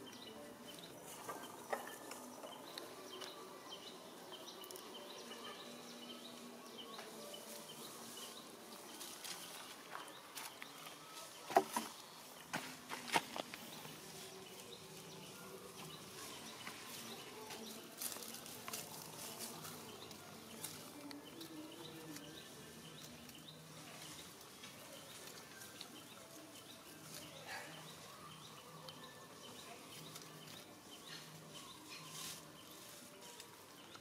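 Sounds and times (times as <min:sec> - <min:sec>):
dry leaves rustling and crackling: 0:00.0 - 0:34.0.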